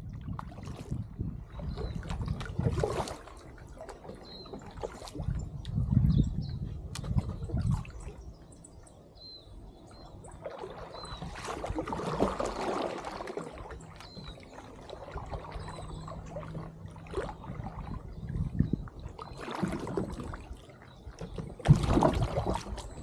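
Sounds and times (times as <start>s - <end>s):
paddle splashing in water: 0.0s - 5.8s, 10.0s - 23.0s.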